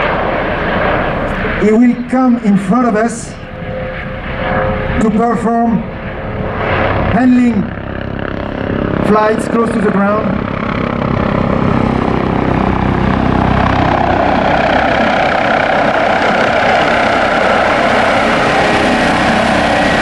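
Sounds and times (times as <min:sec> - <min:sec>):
helicopter rotor and turbines: 0:00.0 - 0:20.0.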